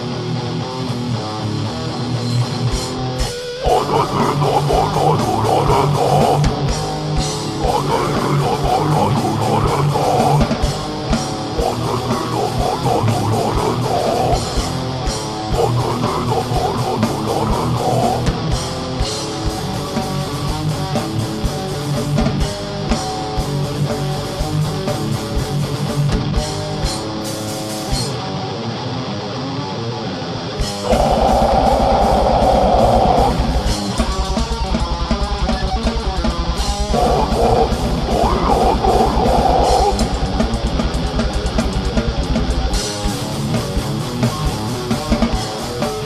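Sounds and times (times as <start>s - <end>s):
bass guitar: 0.0s - 46.0s
distorted electric guitars: 0.0s - 46.0s.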